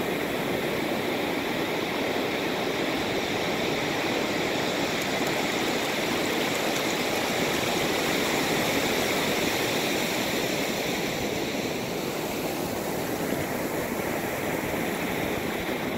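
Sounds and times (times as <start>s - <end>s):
foamy water washing over sand: 0.0s - 15.9s
waves breaking: 2.6s - 15.9s.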